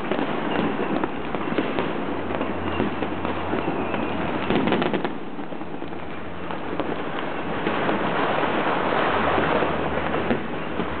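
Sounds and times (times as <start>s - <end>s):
distant fireworks crackling: 0.0s - 11.0s.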